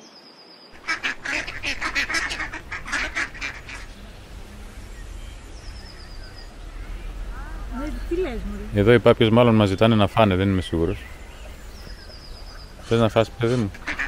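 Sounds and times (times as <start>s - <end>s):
ducks quacking: 0.8s - 14.0s.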